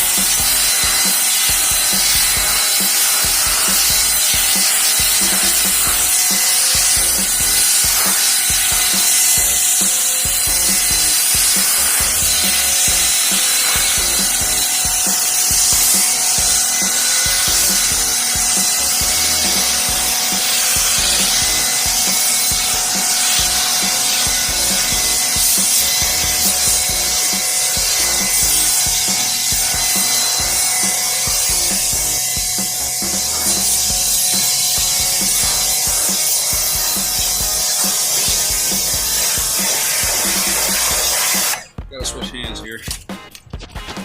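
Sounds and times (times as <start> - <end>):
water jet hissing: 0.0 - 41.7
electric motor and pump whine: 0.0 - 41.8.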